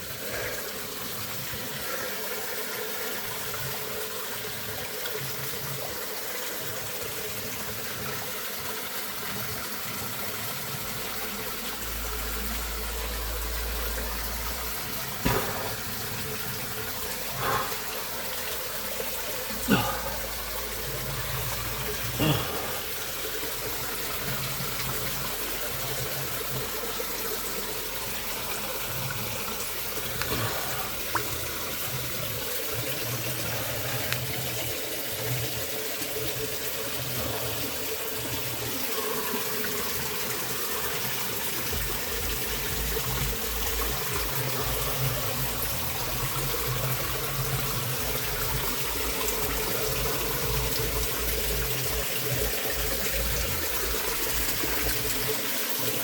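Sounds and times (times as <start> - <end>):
waterfall splashing: 11.2 - 56.0.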